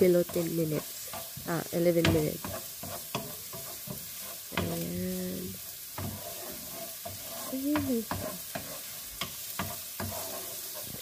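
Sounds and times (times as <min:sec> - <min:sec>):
onions sizzling in oil: 0:00.0 - 0:11.0
spatula scraping frying pan: 0:00.0 - 0:11.0.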